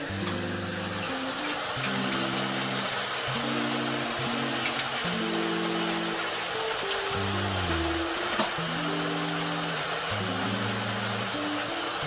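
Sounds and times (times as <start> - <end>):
meat sizzling in a pot: 0.0 - 12.0
slow low-note background music: 0.0 - 12.0.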